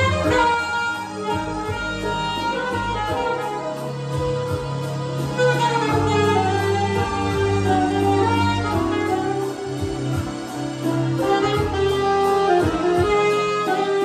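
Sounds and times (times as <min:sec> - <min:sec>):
low bass line: 0:00.0 - 0:14.0
saxophone slow melody: 0:00.0 - 0:14.0.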